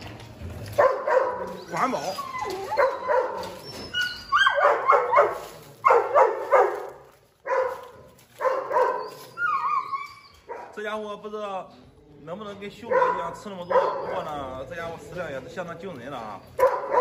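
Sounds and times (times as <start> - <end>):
dogs barking and yipping: 0.4 - 10.8, 12.7 - 15.0, 16.0 - 17.0.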